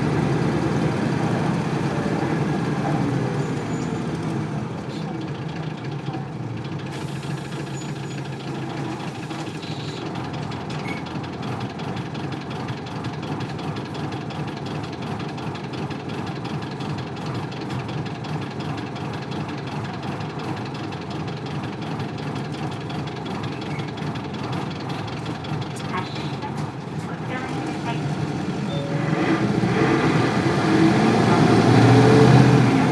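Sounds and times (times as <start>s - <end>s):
diesel bus engine knocking: 0.0s - 32.9s.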